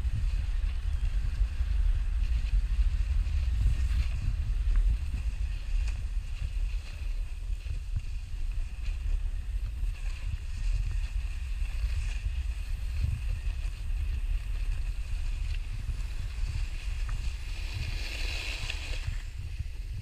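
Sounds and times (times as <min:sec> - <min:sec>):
snowboard sliding on snow: 0:00.0 - 0:20.0
wind buffeting microphone: 0:00.0 - 0:20.0.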